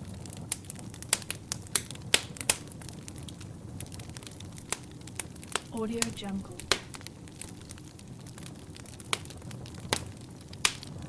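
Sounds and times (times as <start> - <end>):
low rumble of flame: 0.0 - 11.0
wood fire crackling: 0.0 - 11.0.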